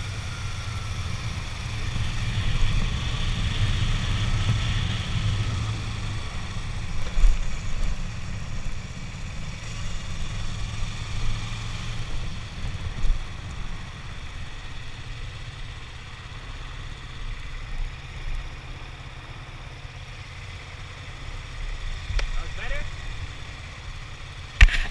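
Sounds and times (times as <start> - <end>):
motorcycle engine rumbling: 0.0 - 24.9.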